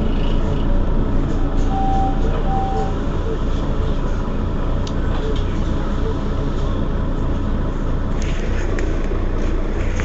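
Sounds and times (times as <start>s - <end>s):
bus engine humming: 0.0s - 10.0s.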